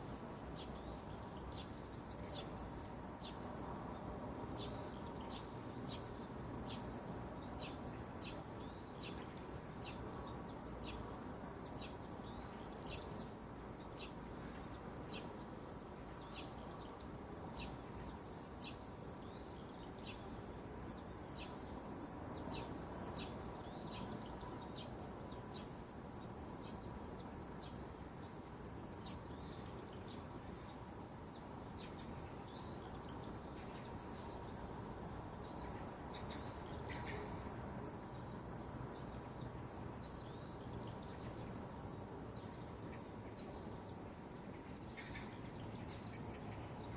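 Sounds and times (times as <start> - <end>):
bird chirping: 0.0 - 41.6, 42.3 - 46.9.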